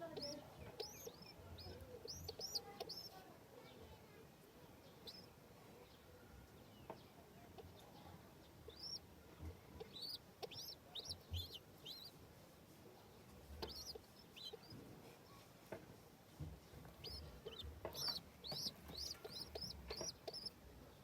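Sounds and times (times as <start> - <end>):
baby chicks cheeping: 0.0 - 4.0, 4.7 - 12.2, 13.2 - 15.4, 16.3 - 21.0.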